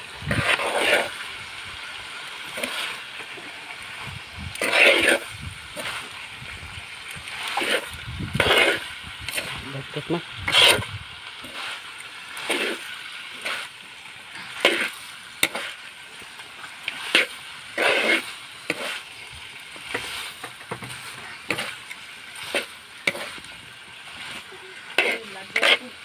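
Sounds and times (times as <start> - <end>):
steady sizzle: 0.0 - 26.0
metal spatula scraping a wok: 0.2 - 1.6, 2.4 - 3.3, 3.9 - 6.3, 7.3 - 9.8, 10.4 - 13.8, 14.4 - 15.9, 16.8 - 26.0.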